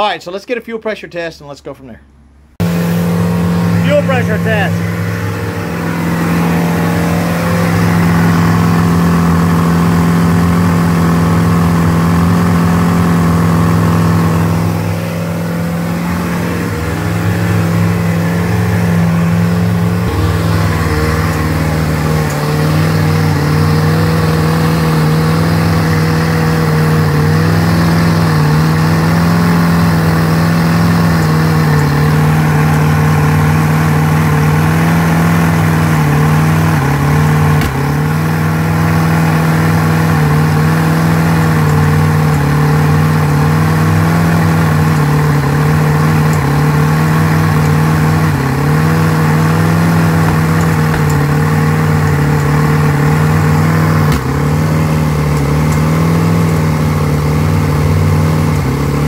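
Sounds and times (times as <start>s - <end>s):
boat engine running loudly: 2.6s - 59.0s.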